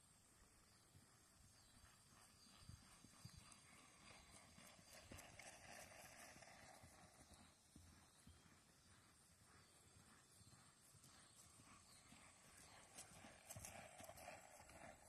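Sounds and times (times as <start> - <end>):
horse hoofbeats on grass: 1.0 - 15.0.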